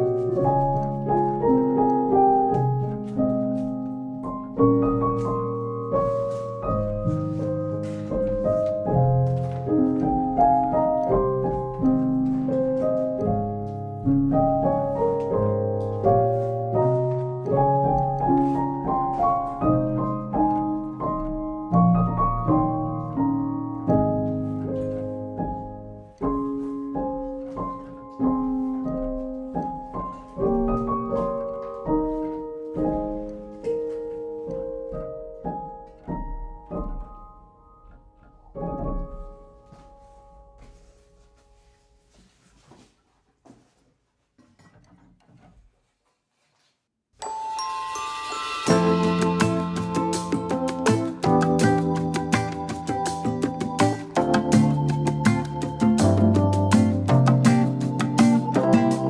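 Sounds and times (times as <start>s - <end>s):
gentle piano music: 0.0s - 42.1s, 47.2s - 59.0s.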